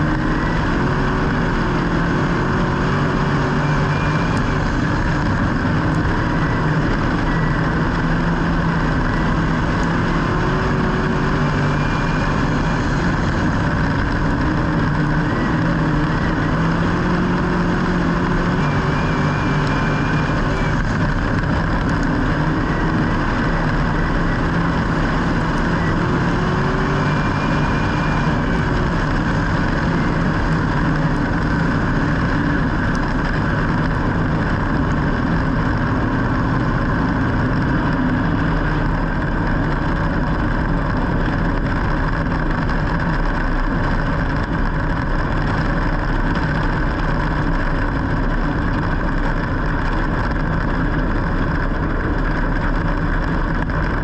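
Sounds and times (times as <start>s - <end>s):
vehicle engines rumbling: 0.0s - 54.0s.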